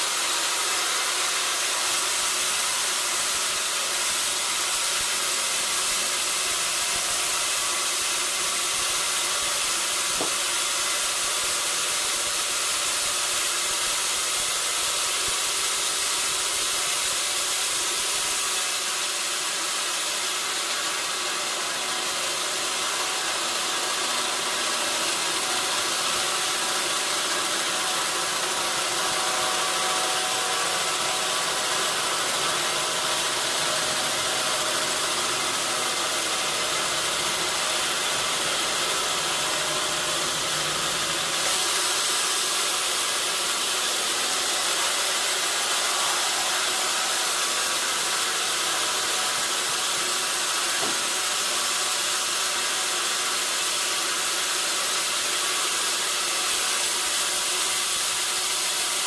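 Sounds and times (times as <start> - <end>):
saw machinery running: 0.0 - 59.0.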